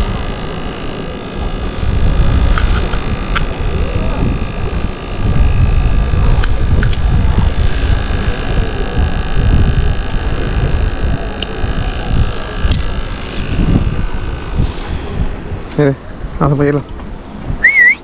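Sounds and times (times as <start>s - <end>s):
wind buffeting microphone: 0.0s - 17.9s
faint steady hum: 0.0s - 18.0s.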